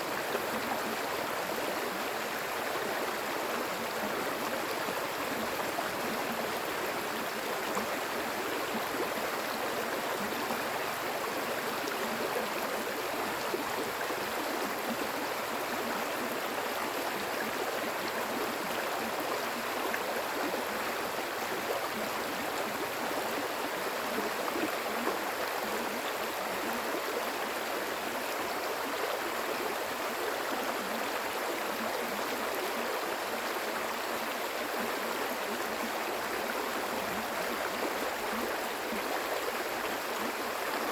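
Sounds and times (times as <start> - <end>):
water flowing in a stream: 0.0 - 40.9.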